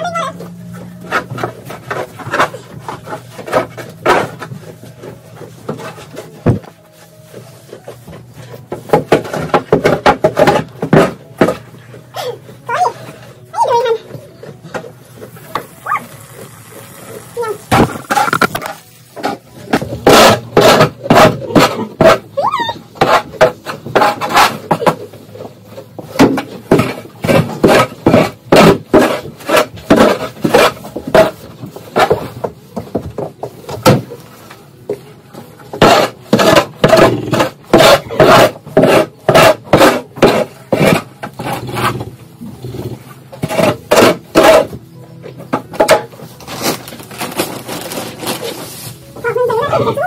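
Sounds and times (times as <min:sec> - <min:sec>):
shovel scraping concrete floor: 0:00.7 - 0:32.6, 0:35.6 - 0:44.9, 0:45.5 - 0:50.0.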